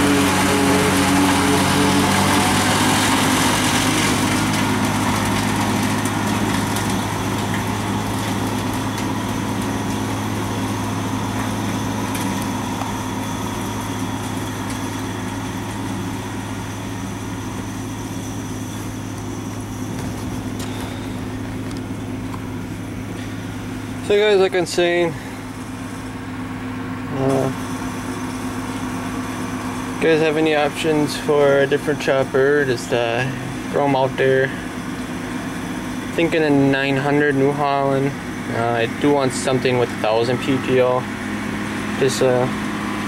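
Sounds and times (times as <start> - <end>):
forage harvester chopping corn: 0.0 - 25.8, 27.0 - 43.0
tractor engine running: 0.0 - 43.0.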